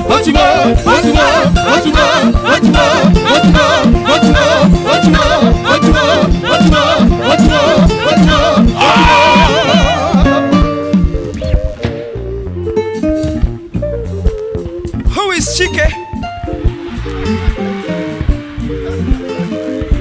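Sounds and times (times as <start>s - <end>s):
fast guitar groove: 0.0s - 20.0s
repeating bass line: 0.0s - 20.0s.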